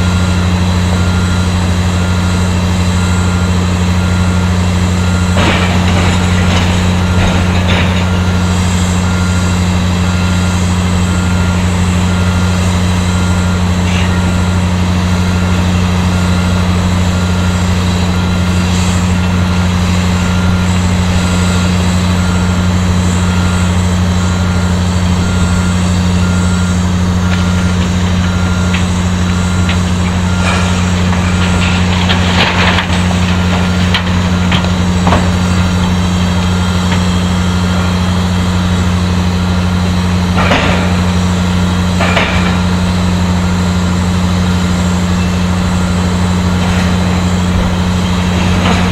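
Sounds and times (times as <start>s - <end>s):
heavy machinery droning: 0.0s - 48.9s.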